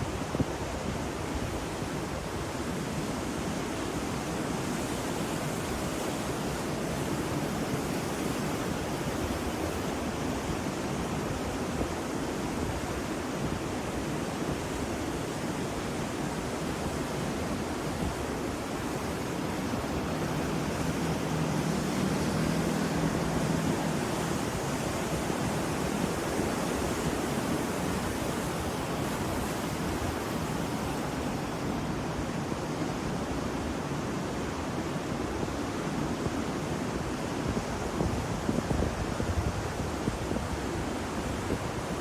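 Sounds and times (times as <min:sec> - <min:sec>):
ocean waves and surf: 0:00.0 - 0:42.0.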